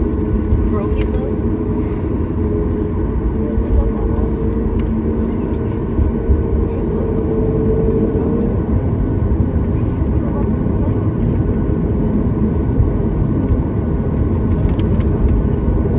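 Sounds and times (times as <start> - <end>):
jet engine cabin rumble: 0.0 - 15.9.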